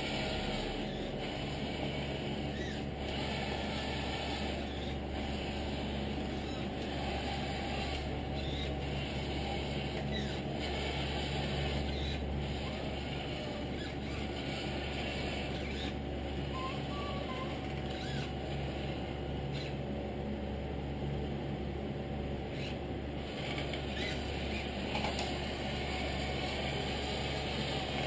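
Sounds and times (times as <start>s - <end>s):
electric motor whirring: 0.0s - 19.8s, 22.5s - 28.0s.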